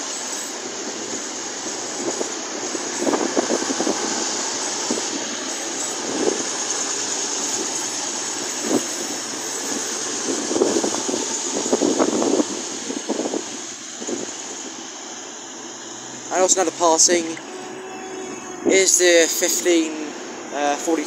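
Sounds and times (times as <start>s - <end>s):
diesel train running slowly: 0.0s - 21.0s.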